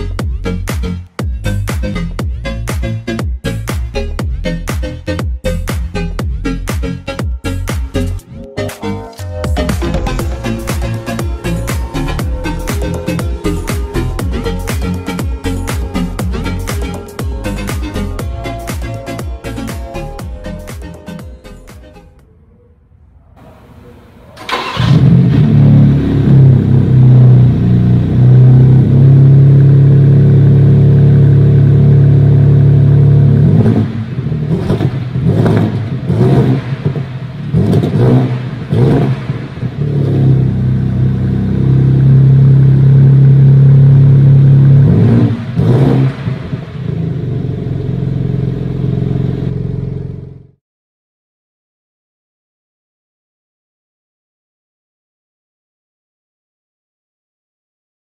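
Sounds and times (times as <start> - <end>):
car engine idling and revving: 0.0 - 21.7, 24.4 - 50.6.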